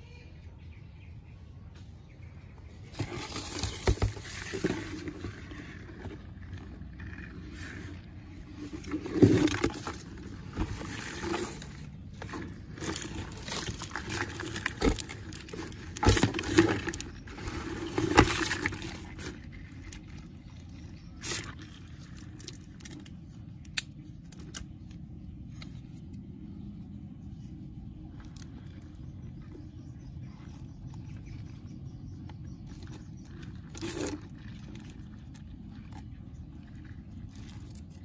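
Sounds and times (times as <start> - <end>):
crab scraping and splashing: 2.8 - 25.4, 26.6 - 38.0.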